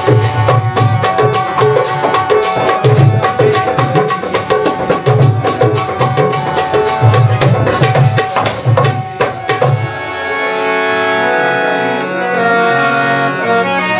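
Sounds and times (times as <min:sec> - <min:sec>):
harmonium chords: 0:00.0 - 0:13.9
tabla playing: 0:00.0 - 0:13.9.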